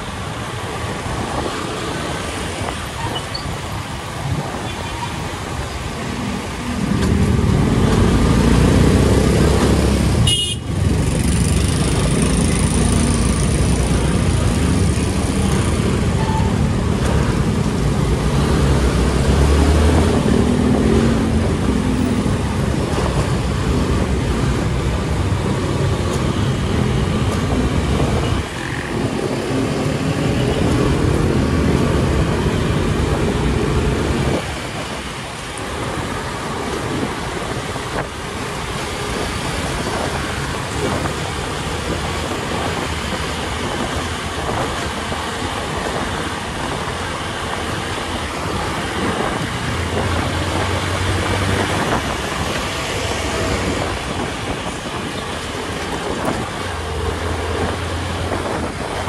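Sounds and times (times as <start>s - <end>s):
engine noise: 0.0s - 59.0s
road noise: 0.0s - 59.0s.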